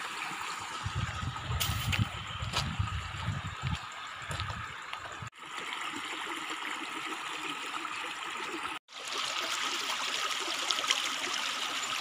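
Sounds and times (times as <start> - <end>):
creek running over stones: 0.0 - 12.0.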